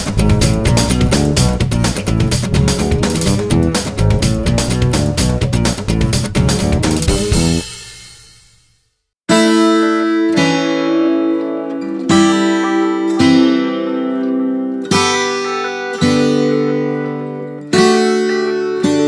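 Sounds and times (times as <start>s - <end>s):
acoustic guitar strumming chords: 0.0s - 7.8s, 9.3s - 19.0s.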